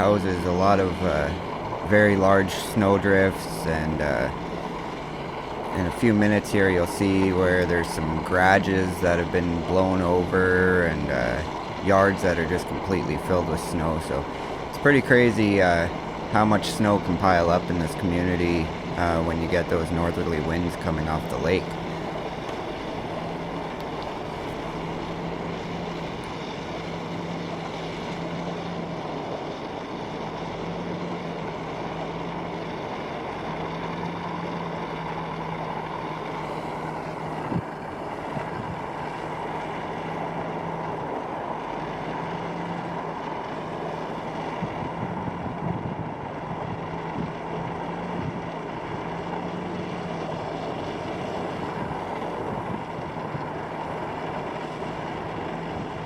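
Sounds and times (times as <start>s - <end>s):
truck engine hum and road noise: 0.0s - 56.0s.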